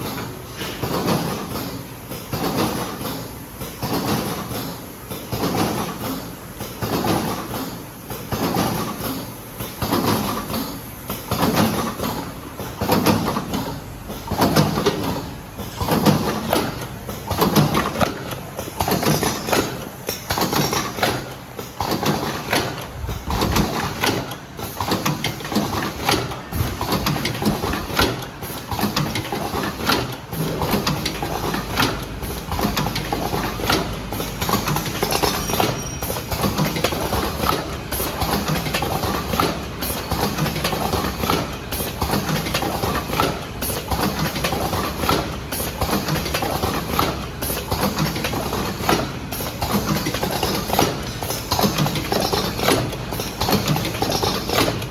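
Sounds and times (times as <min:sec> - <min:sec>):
packing machine clacking and knocking: 0:00.0 - 0:54.9.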